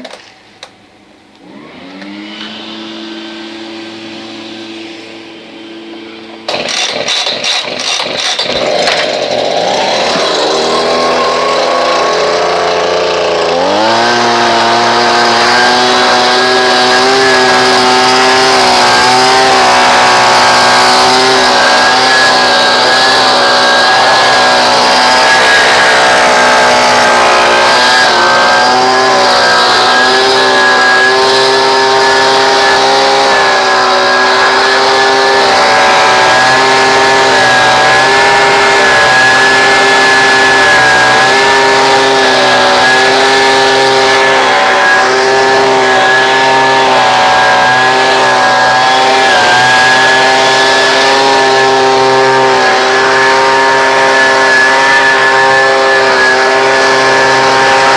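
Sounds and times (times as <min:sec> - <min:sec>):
leaf blower running: 0:00.0 - 0:57.9.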